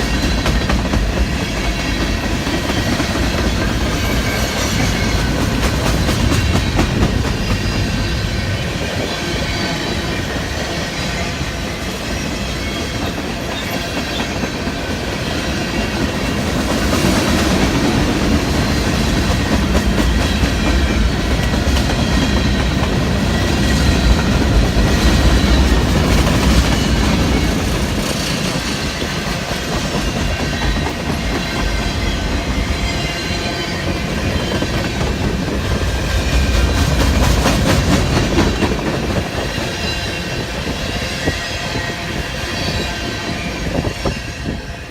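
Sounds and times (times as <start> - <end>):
train cars rumbling: 0.0 - 44.9.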